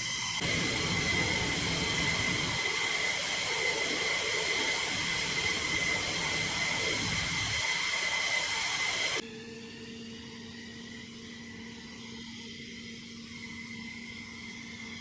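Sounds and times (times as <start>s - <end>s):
jet engines running with whine: 0.0s - 15.0s.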